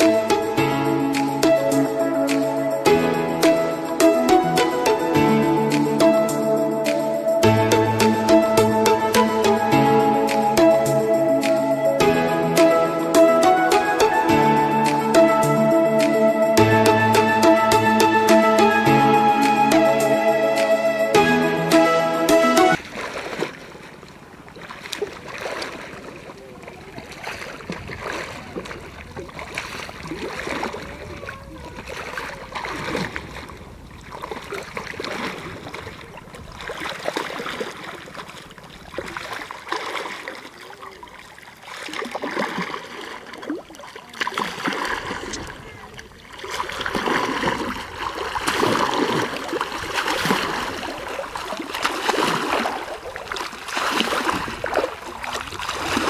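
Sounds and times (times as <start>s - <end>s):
sea water splashing: 0.0s - 56.0s.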